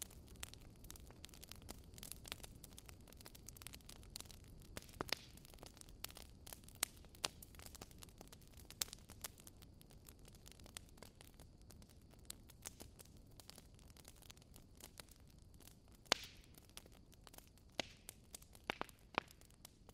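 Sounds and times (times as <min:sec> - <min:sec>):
faint crackling clicks: 0:00.0 - 0:19.9
low steady hiss: 0:00.0 - 0:19.9.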